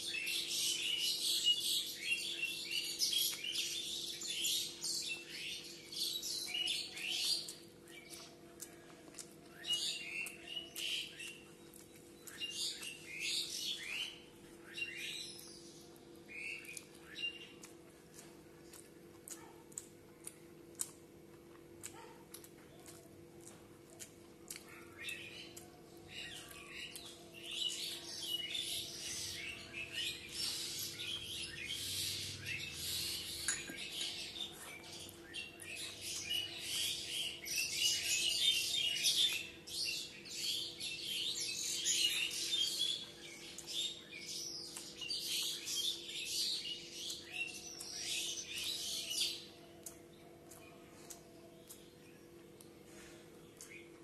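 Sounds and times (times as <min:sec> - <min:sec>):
small birds chirping: 0:00.0 - 0:54.0
chewing and eating clicks: 0:02.2 - 0:14.5, 0:15.2 - 0:38.4, 0:39.0 - 0:39.9, 0:42.0 - 0:54.0.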